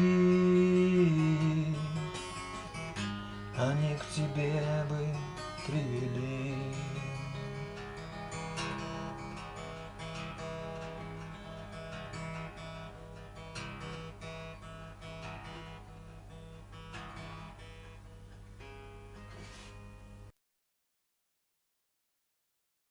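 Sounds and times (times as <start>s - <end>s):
acoustic guitar playing: 0.0s - 20.3s.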